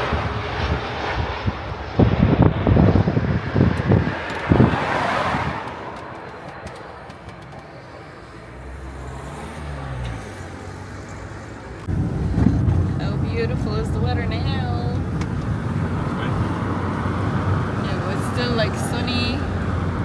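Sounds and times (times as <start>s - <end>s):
wind hitting microphone: 0.0s - 9.3s, 11.8s - 20.0s
jet airliner passing overhead: 0.0s - 20.0s.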